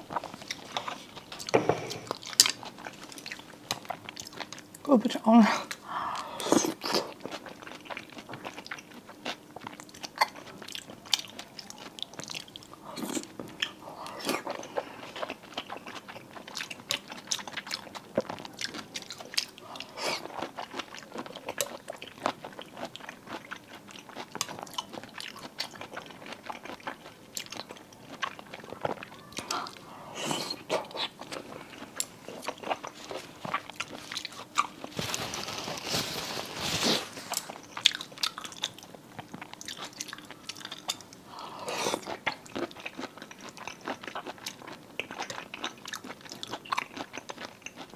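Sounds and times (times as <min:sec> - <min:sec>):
person chewing crunchy seafood: 0:00.0 - 0:04.8, 0:05.7 - 0:35.9, 0:36.8 - 0:47.9.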